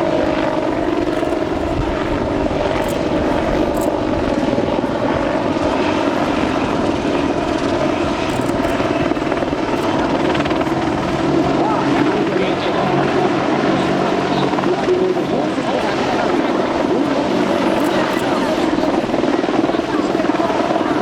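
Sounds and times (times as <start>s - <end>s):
helicopter rotor and engines: 0.0s - 21.0s.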